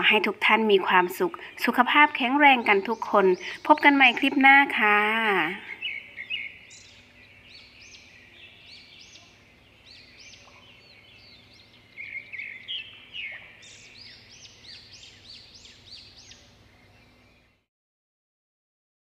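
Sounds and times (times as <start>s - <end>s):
faint steady hum: 0.0s - 17.7s
small birds chirping: 0.0s - 17.7s.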